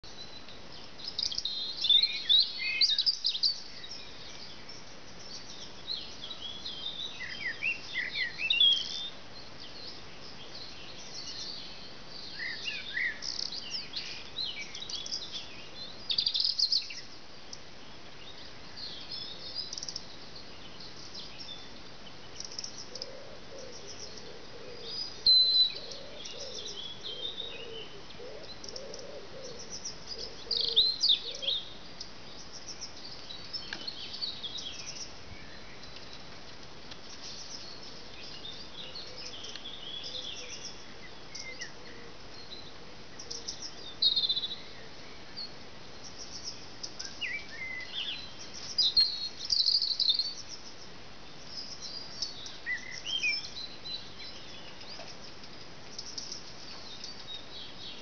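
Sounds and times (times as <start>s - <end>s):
background hiss: 0.0s - 58.0s
birds singing and chirping: 0.0s - 58.0s.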